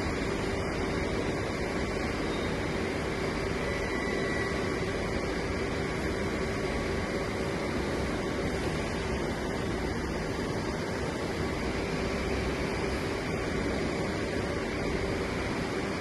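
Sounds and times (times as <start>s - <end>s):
laser marking machine hum: 0.0s - 16.0s.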